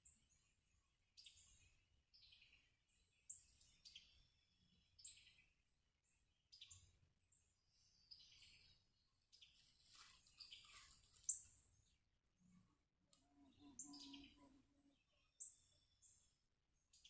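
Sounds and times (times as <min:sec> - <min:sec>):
faint bird song chirping: 0:00.0 - 0:17.0.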